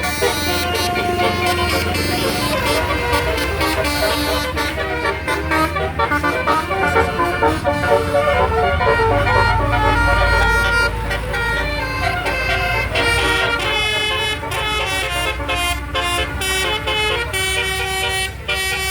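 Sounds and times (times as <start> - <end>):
bus air horn melody: 0.0 - 18.9.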